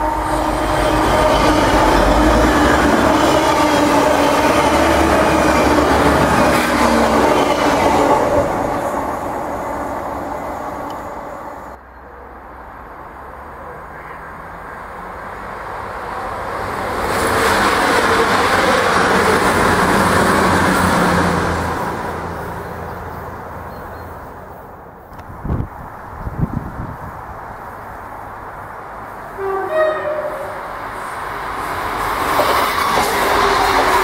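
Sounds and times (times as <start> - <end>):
diesel train passing at speed: 0.0 - 34.0
passenger train running past: 0.0 - 34.0.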